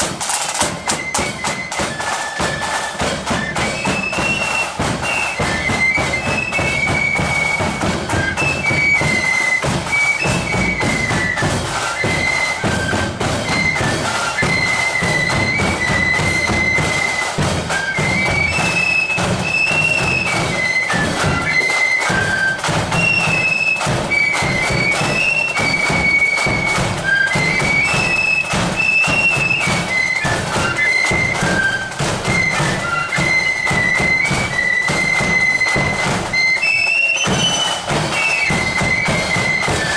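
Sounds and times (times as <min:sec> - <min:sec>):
drum beats: 0:00.0 - 0:39.9
flute melody: 0:00.0 - 0:39.9.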